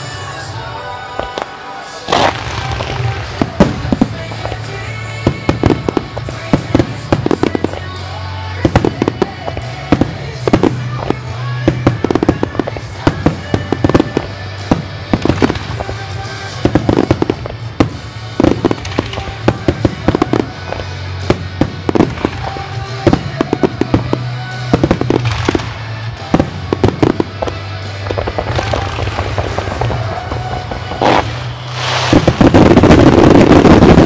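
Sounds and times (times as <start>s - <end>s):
fireworks bursting: 0.0s - 34.0s
music playing: 0.0s - 34.0s.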